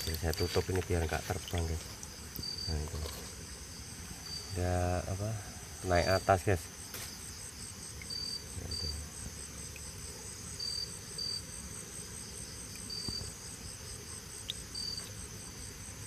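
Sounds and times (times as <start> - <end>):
short insect chirps: 0.0 - 15.9
insects trilling: 0.0 - 16.0.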